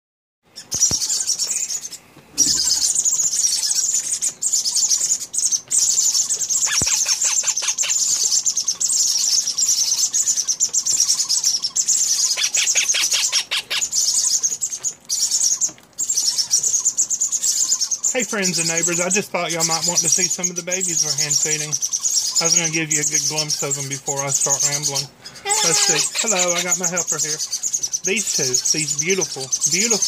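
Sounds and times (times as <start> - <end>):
harsh chattering parrot calls: 0.5 - 30.0
parrots chirping: 0.5 - 30.0.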